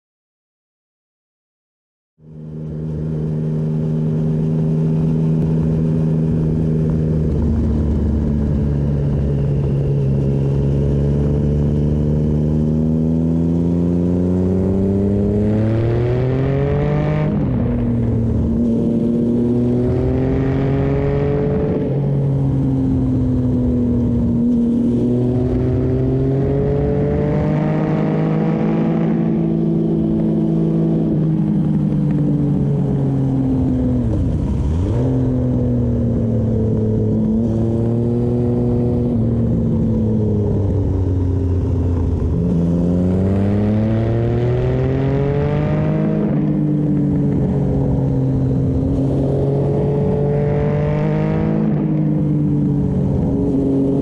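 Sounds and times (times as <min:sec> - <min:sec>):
motorcycle engine revving: 0:02.2 - 0:54.0.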